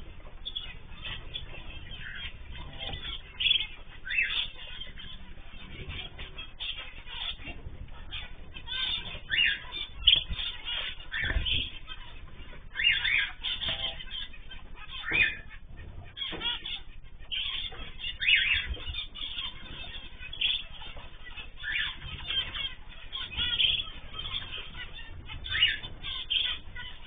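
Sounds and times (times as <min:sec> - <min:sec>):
birds chirping and calling: 0:00.0 - 0:27.0.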